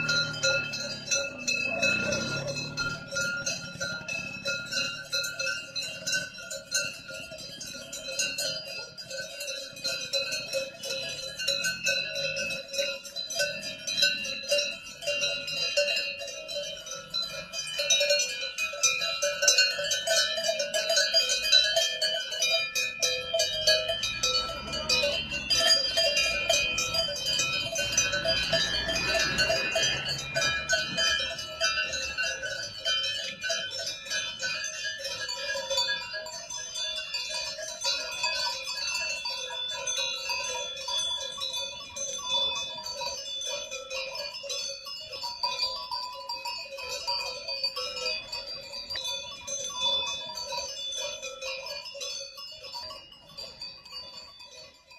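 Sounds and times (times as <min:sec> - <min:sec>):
cowbells clanging: 0:00.0 - 0:54.9.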